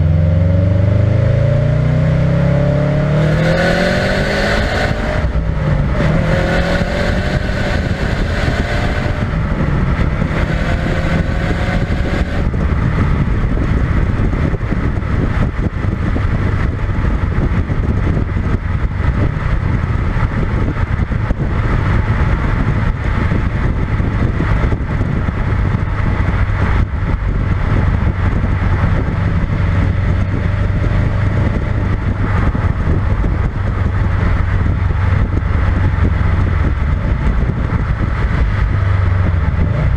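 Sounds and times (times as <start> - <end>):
car engine accelerating and droning: 0.0 - 39.9
road noise: 0.0 - 39.9.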